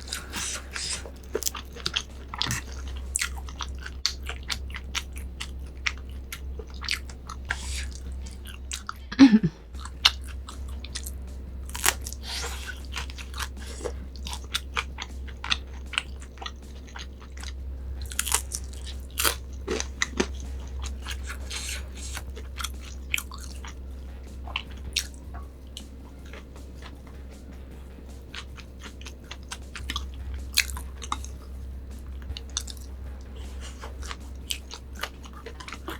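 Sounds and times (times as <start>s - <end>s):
wet chewing and crunchy bites: 0.0s - 35.9s.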